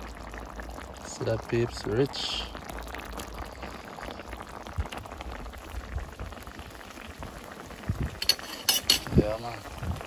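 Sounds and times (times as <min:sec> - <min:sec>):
stew bubbling in a pan: 0:00.0 - 0:10.0.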